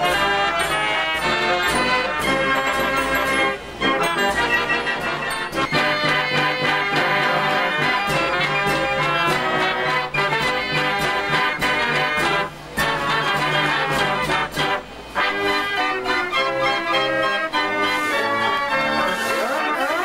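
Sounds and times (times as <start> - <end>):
fairground organ playing: 0.0 - 20.0.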